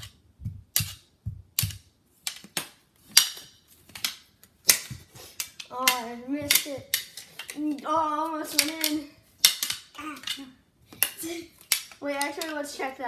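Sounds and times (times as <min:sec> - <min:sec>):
plastic hockey sticks clacking: 0:00.0 - 0:13.0.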